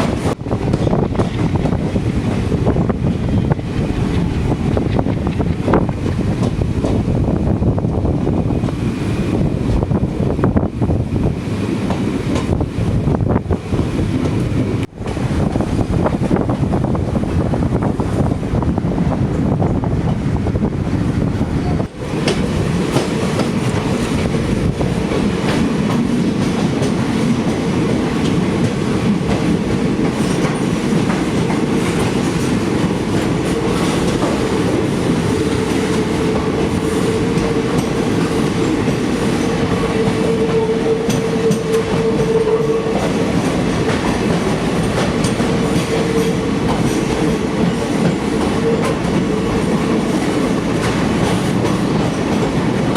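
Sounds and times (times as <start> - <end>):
train wheels rumbling on rail: 0.0 - 52.9
train whine: 0.0 - 52.9.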